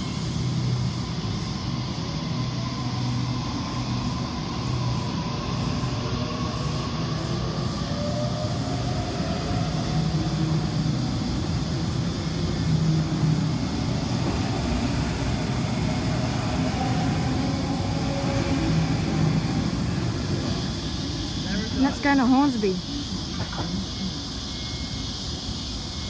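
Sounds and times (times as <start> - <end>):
train wheels and motors rumbling: 0.0 - 26.0.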